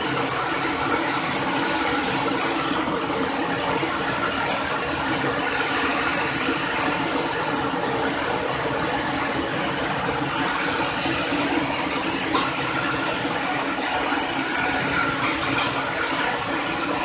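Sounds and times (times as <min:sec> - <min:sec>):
dishwasher whirring: 0:00.0 - 0:17.0.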